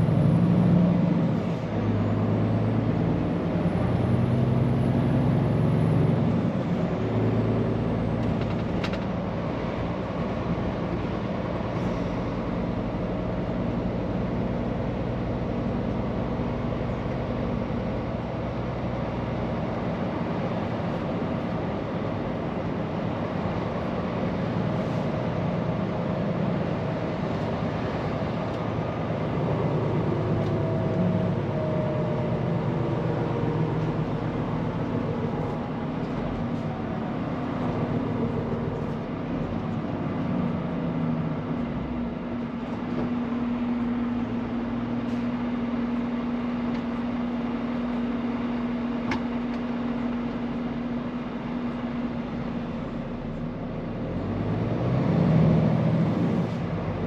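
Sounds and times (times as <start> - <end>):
road noise: 0.0 - 57.0
truck engine: 0.0 - 57.0.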